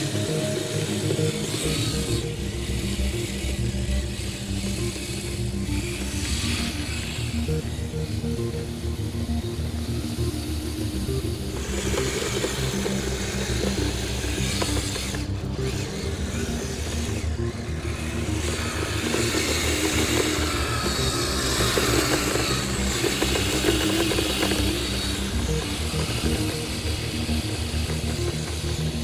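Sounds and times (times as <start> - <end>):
toy electric motor and tracks running: 0.0 - 29.0.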